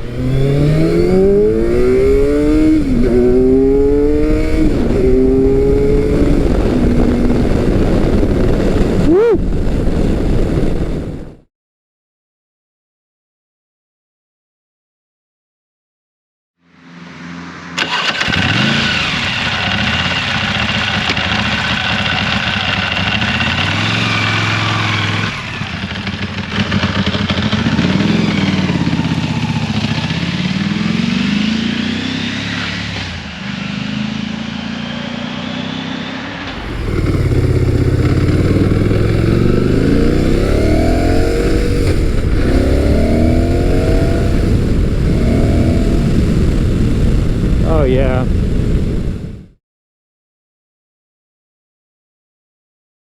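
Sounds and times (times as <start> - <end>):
motorcycle engine accelerating: 0.0 - 11.4, 16.6 - 49.6.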